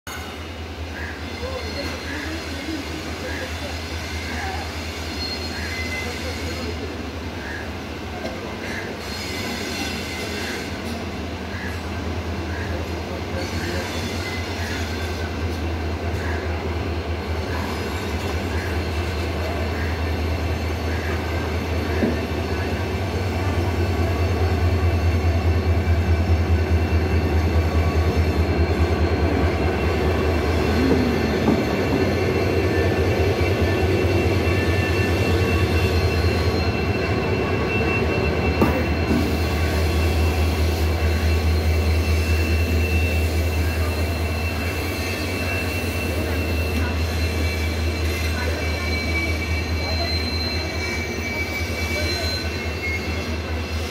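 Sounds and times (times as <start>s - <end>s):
locomotive engine drone: 0.2s - 53.9s.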